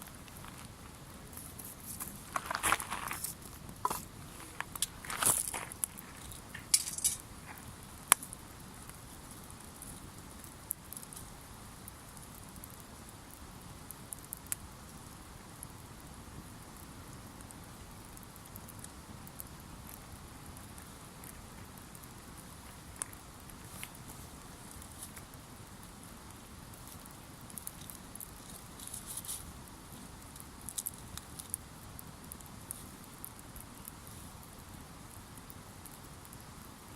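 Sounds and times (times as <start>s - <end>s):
campfire popping and crackling: 0.0s - 36.9s
faint fire hiss with ticks: 0.0s - 36.9s.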